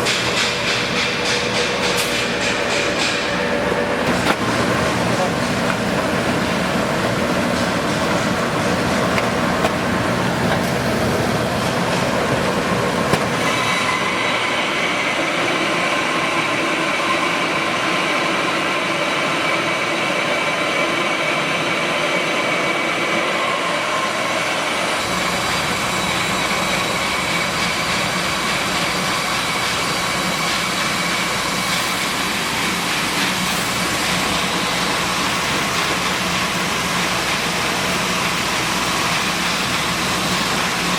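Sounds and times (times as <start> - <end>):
milling machinery whining: 0.0 - 40.9.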